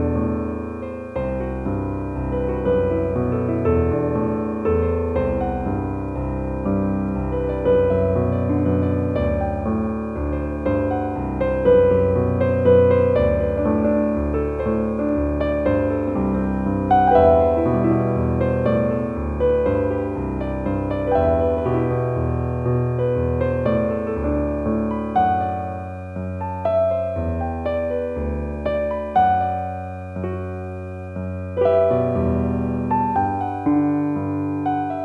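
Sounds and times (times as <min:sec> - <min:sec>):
slow piano chords: 0:00.0 - 0:35.0.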